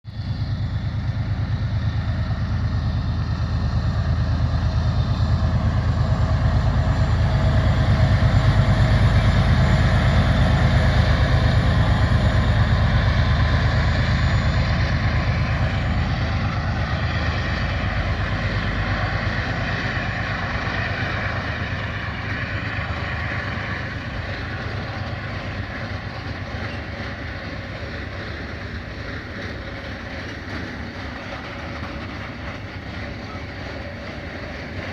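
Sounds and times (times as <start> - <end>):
freight train rumbling on rails: 0.0 - 34.9.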